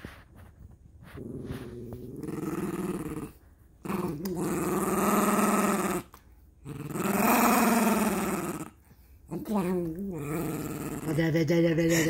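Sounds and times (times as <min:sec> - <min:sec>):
dog growling: 0:01.1 - 0:12.0.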